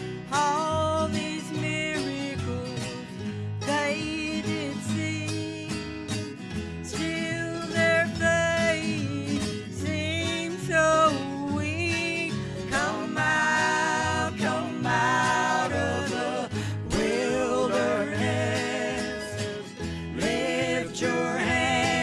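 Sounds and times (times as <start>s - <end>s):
acoustic guitar: 0.0s - 22.0s
country gospel band playing: 0.0s - 22.0s
steady bass: 0.0s - 22.0s.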